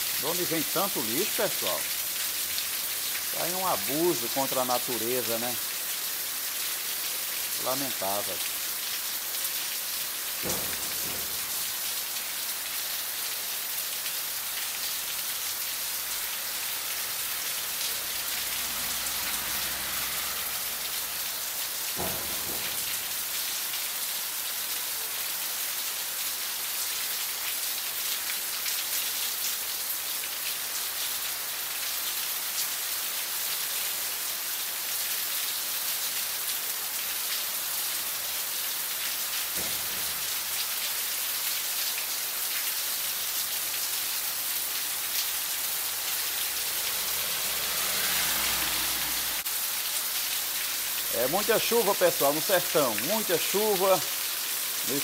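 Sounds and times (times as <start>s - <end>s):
heavy rain on wet street: 0.0s - 55.0s.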